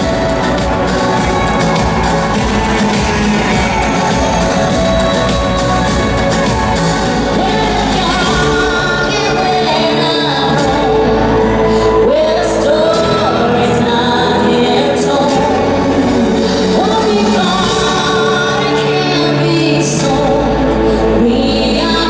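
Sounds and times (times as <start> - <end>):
live pop band playing: 0.0 - 22.0
woman singing into a microphone: 4.0 - 22.0.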